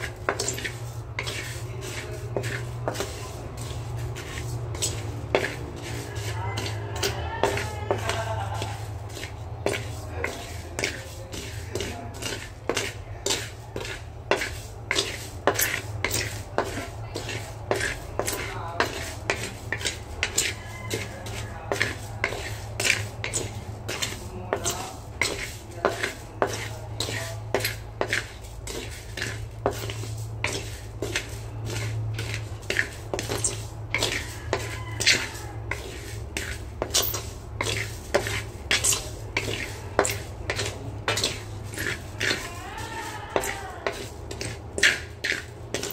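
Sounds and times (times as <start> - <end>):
wooden spatula scraping rice in pan: 0.0 - 45.9.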